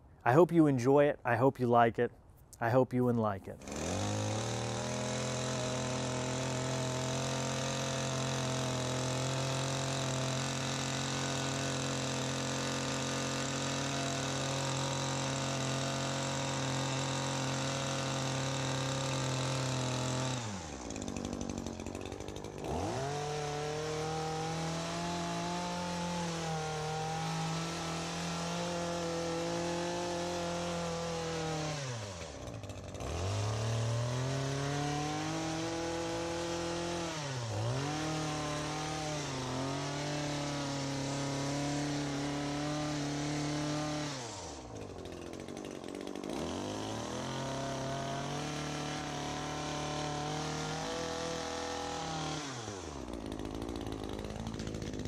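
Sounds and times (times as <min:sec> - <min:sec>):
hedge trimmer engine revving: 0:03.6 - 0:55.0.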